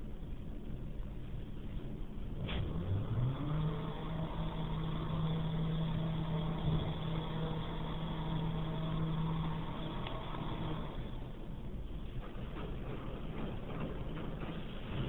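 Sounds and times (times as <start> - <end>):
car wash motor humming: 1.2 - 15.0.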